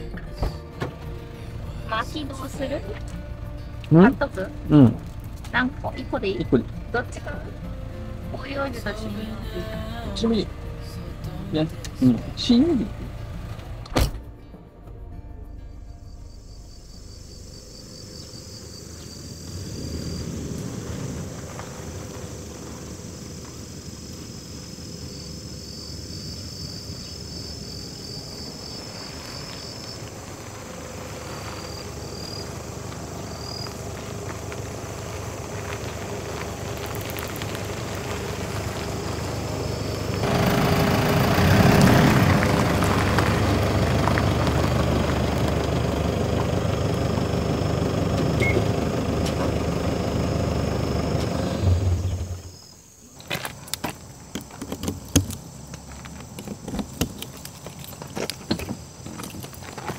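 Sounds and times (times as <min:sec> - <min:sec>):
van engine and road noise: 0:00.0 - 0:59.9.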